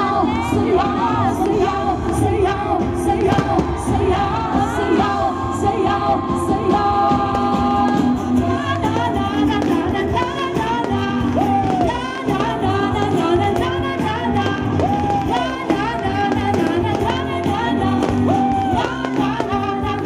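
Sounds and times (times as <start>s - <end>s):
music with singing: 0.0s - 20.0s.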